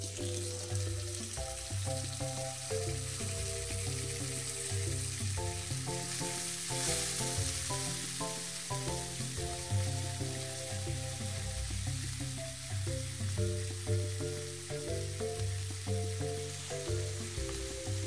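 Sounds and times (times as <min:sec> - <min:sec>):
background music: 0:00.0 - 0:18.0
onion frying in oil: 0:00.0 - 0:18.0.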